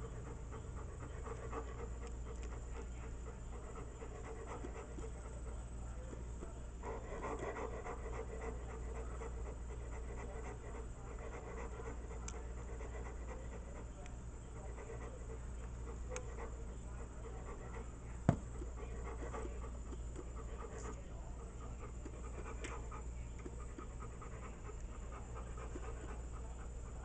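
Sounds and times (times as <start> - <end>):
dog panting: 0.0 - 27.0
low steady hum: 0.0 - 27.0.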